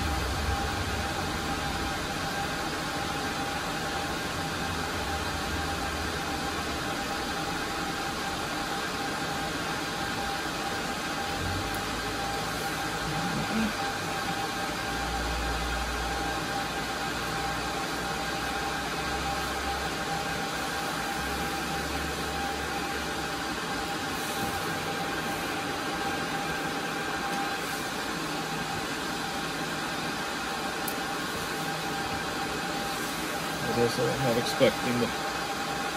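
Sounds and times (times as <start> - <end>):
cooling fans whirring: 0.0 - 35.9
faint steady whine: 0.0 - 35.9.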